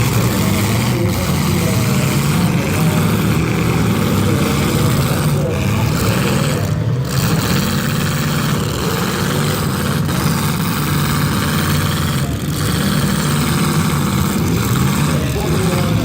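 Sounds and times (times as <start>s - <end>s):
car and truck engines revving: 0.0s - 16.0s.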